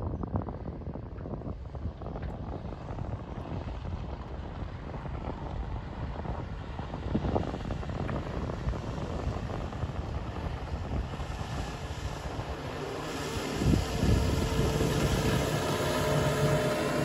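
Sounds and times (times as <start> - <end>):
motorboat engine at speed: 0.0 - 17.0
wind buffeting microphone: 0.0 - 17.0.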